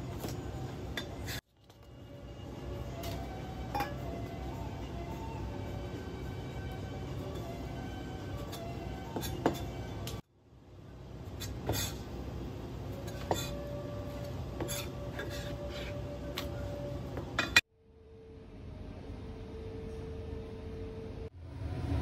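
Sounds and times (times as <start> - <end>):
steady background hum: 0.0 - 21.8.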